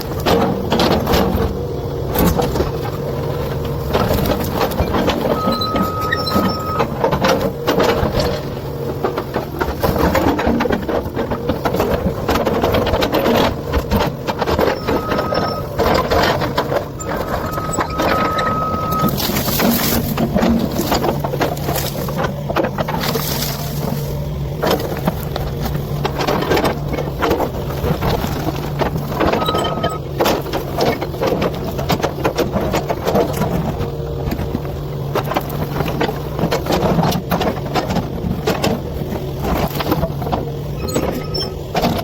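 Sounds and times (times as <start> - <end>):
excavator diesel engine running: 0.0 - 42.0
bucket scraping earth and rock: 2.4 - 42.0.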